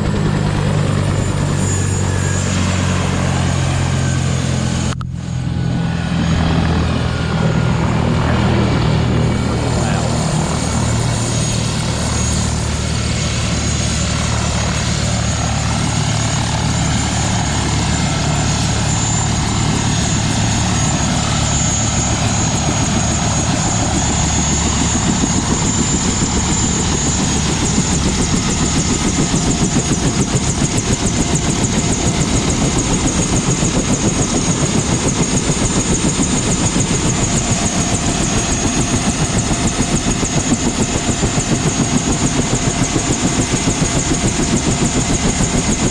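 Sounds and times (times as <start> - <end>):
helicopter rotor beating: 0.0 - 45.9
helicopter turbine whine: 0.0 - 45.9.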